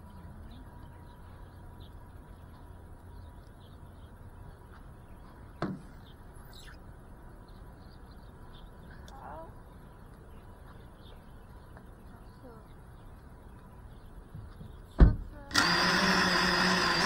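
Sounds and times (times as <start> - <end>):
faint bird chirps: 0.0 - 15.5.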